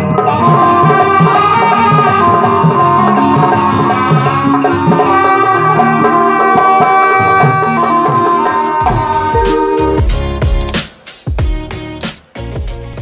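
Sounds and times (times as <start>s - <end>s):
saxophone melody: 0.0s - 10.8s
hand-played barrel drum: 0.0s - 11.8s
keyboard accompaniment: 0.0s - 13.0s.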